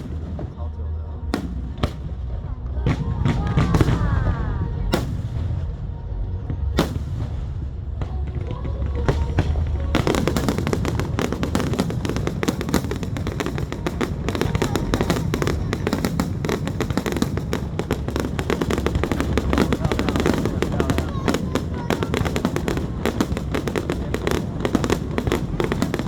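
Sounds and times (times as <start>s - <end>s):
crackling fireworks bursts: 0.0s - 26.0s
fireworks cracking: 0.0s - 26.0s
low rumble: 0.0s - 26.0s.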